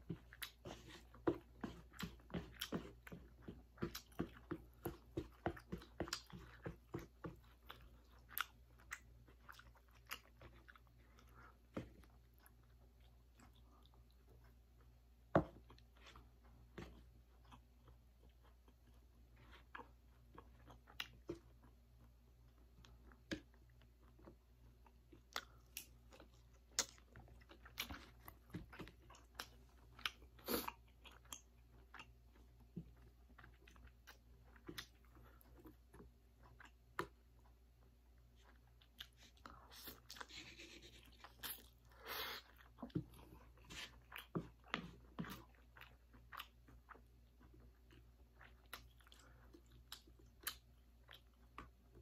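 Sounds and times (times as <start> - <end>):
person chewing noodles: 0.0 - 52.0.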